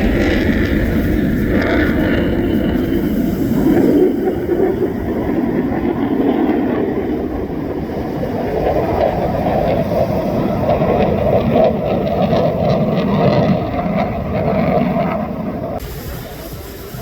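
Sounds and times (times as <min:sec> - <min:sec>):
jet engines low rushing roar: 0:00.0 - 0:17.0.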